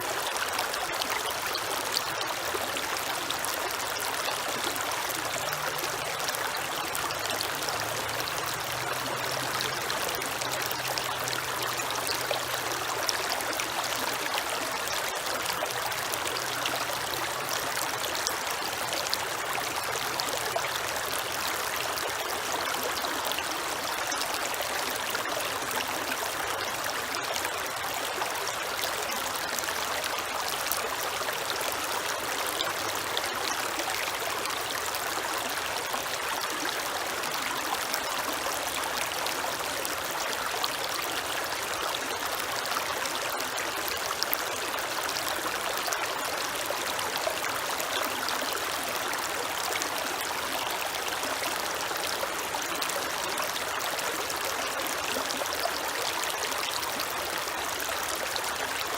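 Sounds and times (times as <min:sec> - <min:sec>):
creek water flowing: 0:00.0 - 0:58.9.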